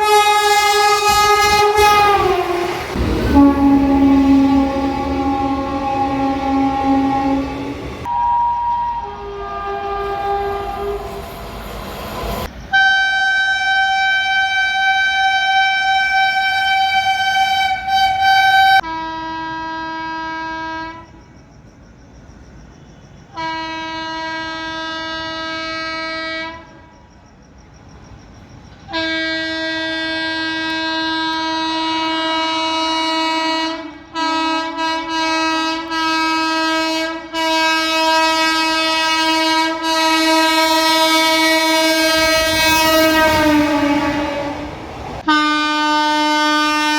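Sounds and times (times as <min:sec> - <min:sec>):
low-pitched locomotive horn: 0:00.0 - 0:21.1, 0:23.4 - 0:26.8, 0:28.9 - 0:46.9
high-pitched locomotive horn: 0:00.0 - 0:21.2, 0:23.4 - 0:26.8, 0:28.9 - 0:46.9
running train noise: 0:00.0 - 0:46.9.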